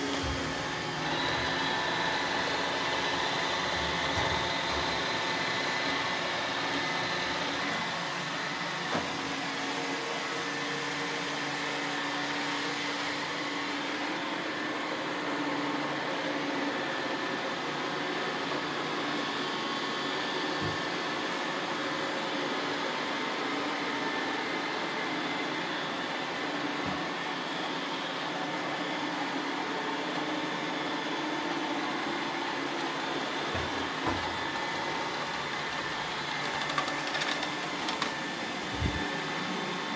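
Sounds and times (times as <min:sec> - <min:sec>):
robot vacuums humming: 0:00.0 - 0:39.9.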